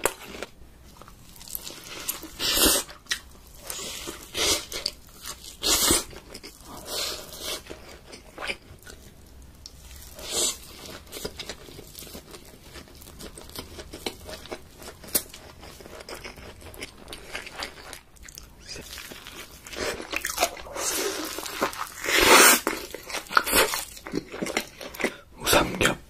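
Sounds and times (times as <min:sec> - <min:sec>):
man chewing and biting food: 0:00.0 - 0:25.9.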